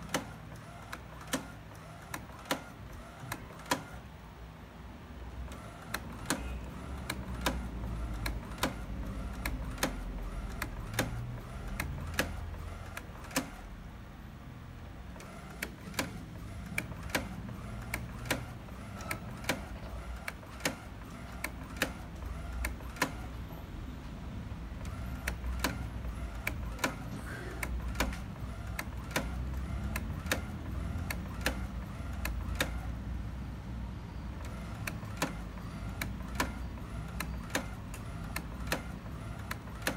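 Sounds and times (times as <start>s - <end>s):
printer mechanical clicks: 0.0s - 4.1s, 5.2s - 14.0s, 14.6s - 33.2s, 34.1s - 39.9s
inkjet printer motor hum: 0.0s - 4.2s, 5.3s - 14.0s, 14.7s - 23.8s, 24.4s - 33.3s, 34.0s - 39.9s.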